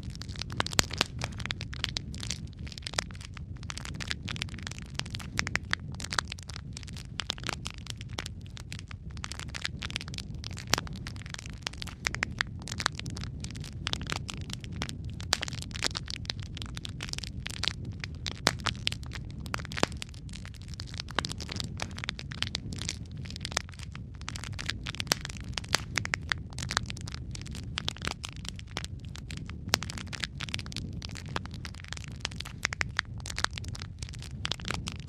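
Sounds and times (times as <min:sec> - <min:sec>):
burning wood crackling and popping: 0:00.0 - 0:35.0
flames rumbling: 0:00.0 - 0:35.0.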